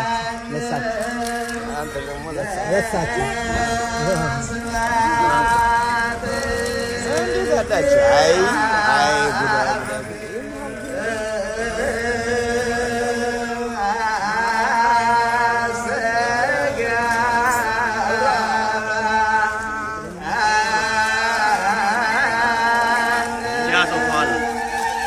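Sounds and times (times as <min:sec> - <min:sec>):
group chanting a hymn: 0:00.0 - 0:25.0.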